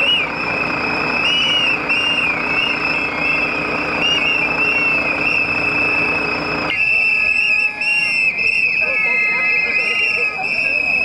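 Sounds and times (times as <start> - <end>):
crowd noise: 0.0 - 11.0
shrill whistles blowing: 0.0 - 11.0.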